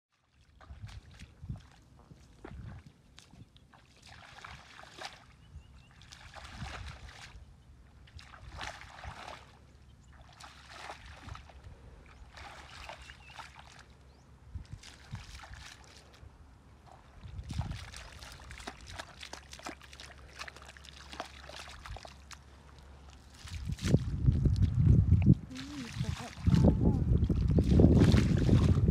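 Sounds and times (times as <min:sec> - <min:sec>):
footsteps splashing in shallow water: 0:00.1 - 0:28.9
feet squelching in mud: 0:00.4 - 0:07.4, 0:08.1 - 0:14.0, 0:14.6 - 0:28.9.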